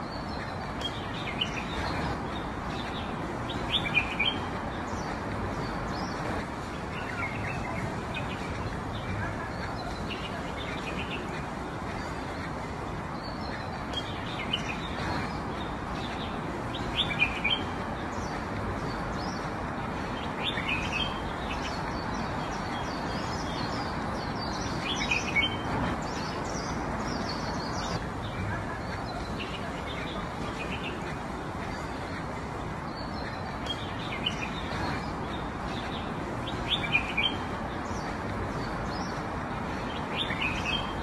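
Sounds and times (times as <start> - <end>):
outdoor background noise: 0.0 - 41.0
small birds chirping: 0.0 - 41.0.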